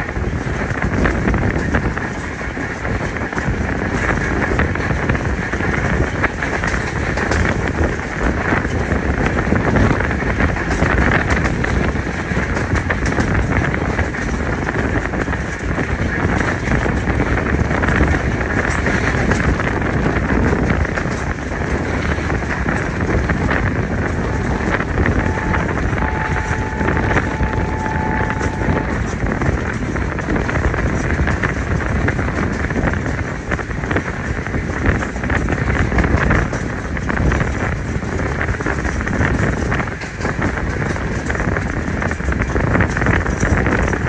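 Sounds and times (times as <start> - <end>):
train wheels rumbling on track: 0.0 - 44.0
wind buffeting microphone: 0.0 - 44.0.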